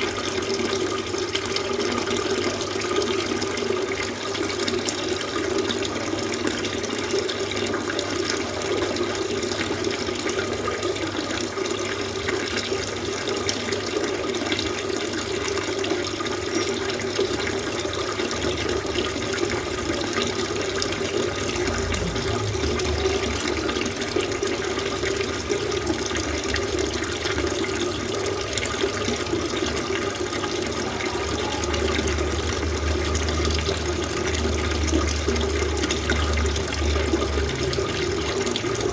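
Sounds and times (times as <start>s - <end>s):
fountain water splashing into pool: 0.0s - 38.9s.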